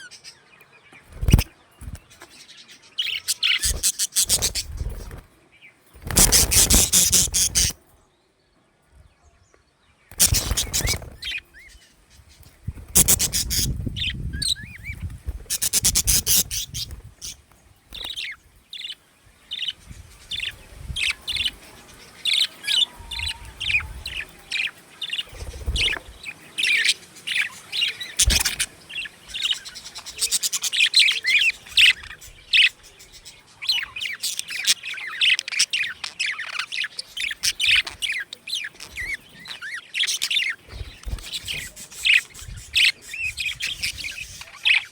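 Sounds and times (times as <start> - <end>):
budgerigars chirping: 1.1 - 5.2, 6.0 - 7.8, 10.1 - 44.9.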